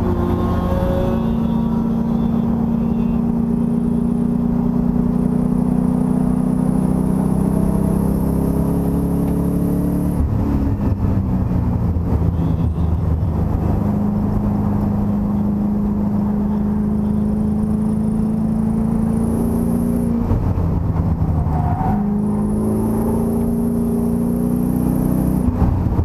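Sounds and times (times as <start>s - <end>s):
race car engine from cockpit: 0.0s - 26.0s.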